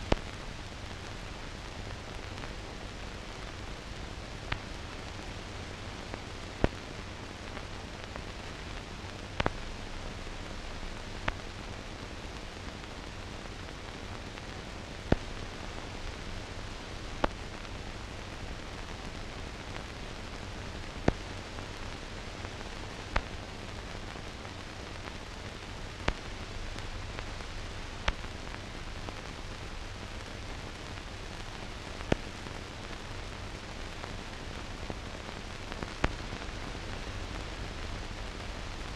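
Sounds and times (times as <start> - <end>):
steady film hiss: 0.0 - 38.9.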